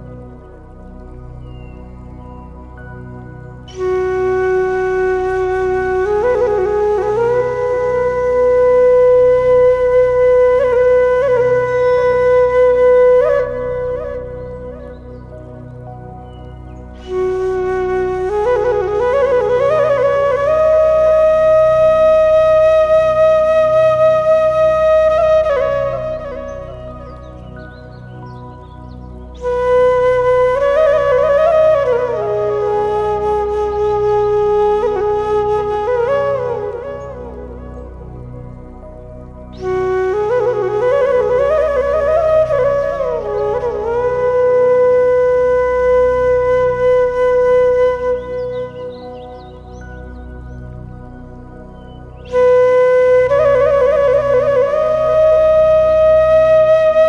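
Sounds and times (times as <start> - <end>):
flute playing long note: 0.0 - 57.0
low droning accompaniment: 0.0 - 57.0.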